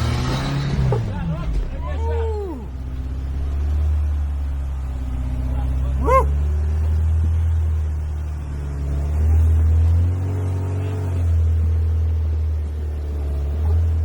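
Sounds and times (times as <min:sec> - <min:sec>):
engine labouring on rocky trail: 0:00.0 - 0:14.0.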